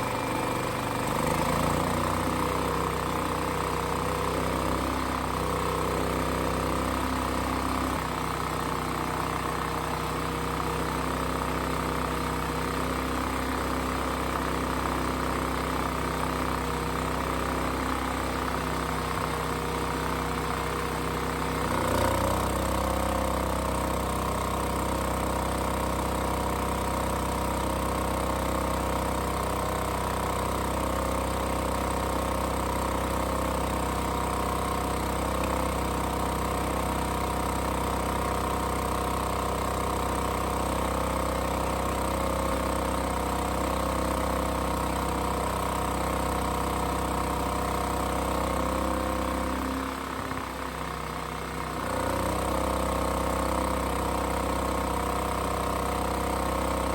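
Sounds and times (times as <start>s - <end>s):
generator engine idling: 0.0s - 56.9s.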